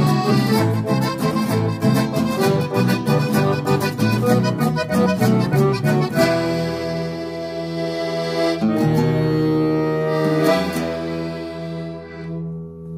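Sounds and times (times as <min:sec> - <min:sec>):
acoustic guitar strummed chords: 0:00.0 - 0:12.9
piano accordion chords: 0:00.0 - 0:12.9.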